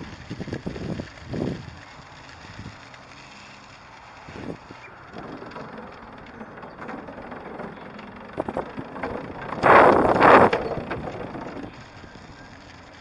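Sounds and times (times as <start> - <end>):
wind and tyre noise: 0.0 - 13.0.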